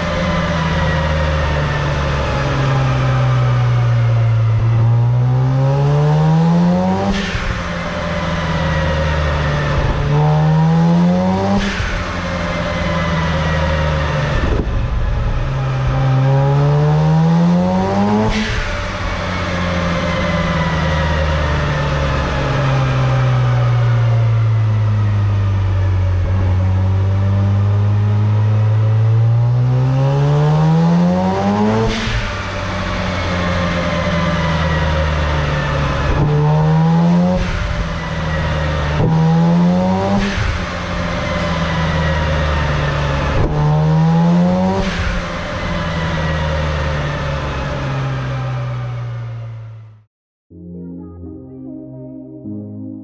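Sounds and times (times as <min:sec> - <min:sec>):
exhaust backfire bangs: 0:00.0 - 0:24.4, 0:29.2 - 0:48.2
rotary engine revving hard: 0:00.0 - 0:49.8.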